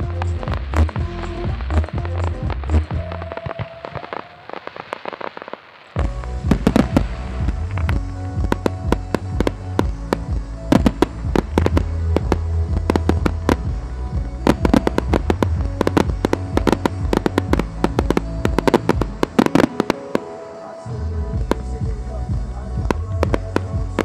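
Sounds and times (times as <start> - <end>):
music with boomy bass: 0.0 - 3.4, 6.0 - 19.9, 20.9 - 24.0.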